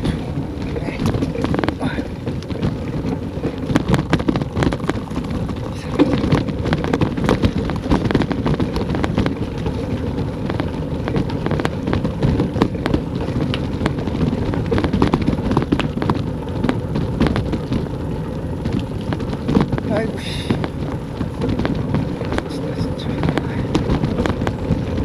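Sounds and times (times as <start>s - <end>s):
raindrops ticking on camera: 0.0s - 25.0s
wind buffeting microphone: 0.0s - 25.0s.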